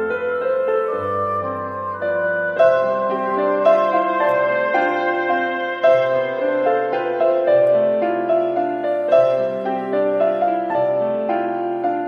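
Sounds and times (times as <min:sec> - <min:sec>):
soft piano background music: 0:00.0 - 0:12.0.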